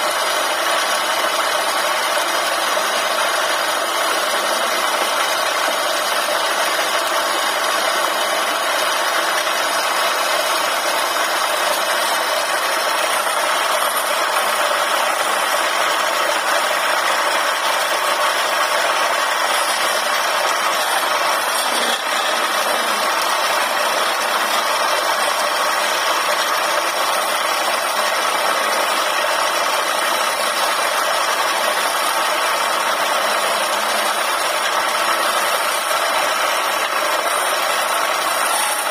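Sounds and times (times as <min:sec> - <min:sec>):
wood lathe running: 0:00.0 - 0:38.9.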